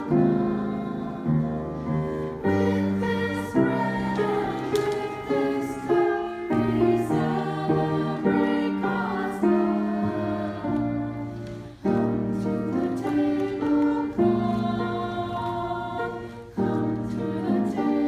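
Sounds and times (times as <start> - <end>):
piano accompaniment: 0.0 - 18.0
women's choir singing: 0.0 - 18.0.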